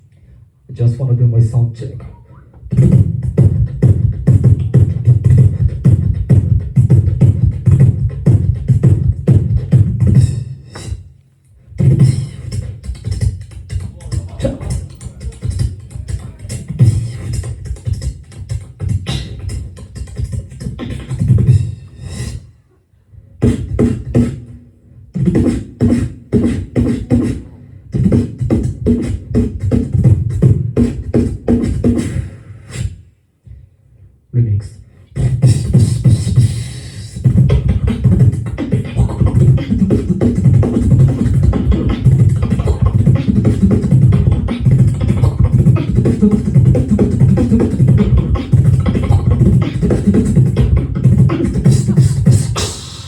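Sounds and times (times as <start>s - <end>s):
human beatboxing: 0.0s - 53.0s.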